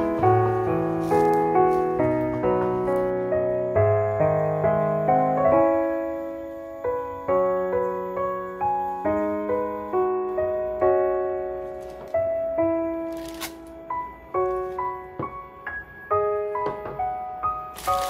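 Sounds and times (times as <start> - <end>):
soft piano melody: 0.0 - 18.0.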